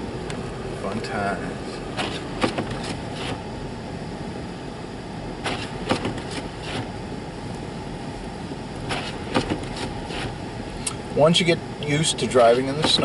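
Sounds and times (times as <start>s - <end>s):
car engine and tyres on snow: 0.0s - 13.0s.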